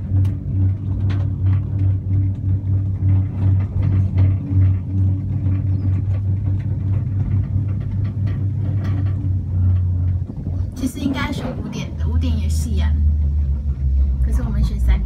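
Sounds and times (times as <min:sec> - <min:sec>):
gondola cabin hum and rumble: 0:00.0 - 0:15.0
light clicks and rattles: 0:00.0 - 0:15.0.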